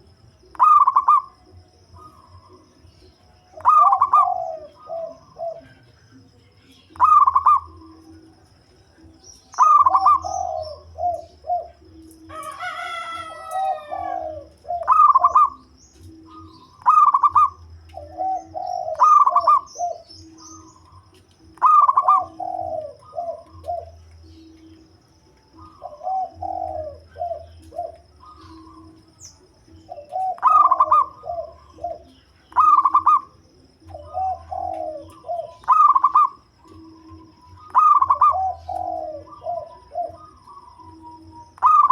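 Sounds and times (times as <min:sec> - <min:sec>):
dove cooing: 0:00.0 - 0:41.9
bird call: 0:00.5 - 0:08.4, 0:09.1 - 0:41.9.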